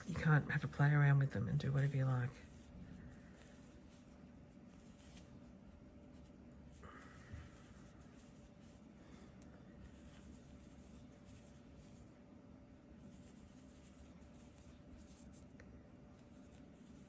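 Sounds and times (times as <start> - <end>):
yarn rustling through crochet stitches: 0.0 - 9.0, 9.7 - 12.2, 12.8 - 17.0
faint steady hum: 0.0 - 17.0.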